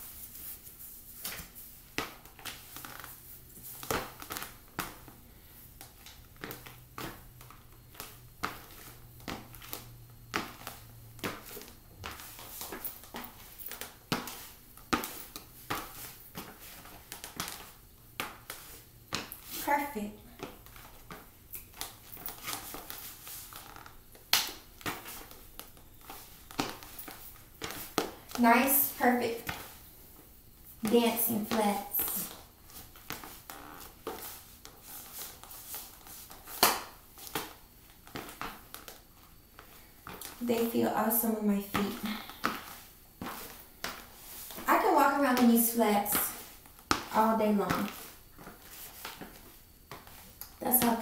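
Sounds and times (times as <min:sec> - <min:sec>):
footsteps on tile floor: 0:00.0 - 0:51.0.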